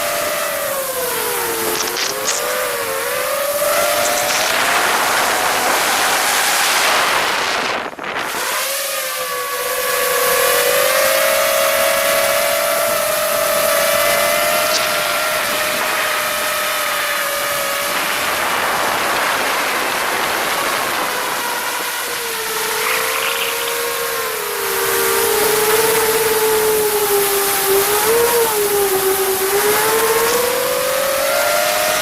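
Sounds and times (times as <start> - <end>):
drone motors whining: 0.0 - 32.0.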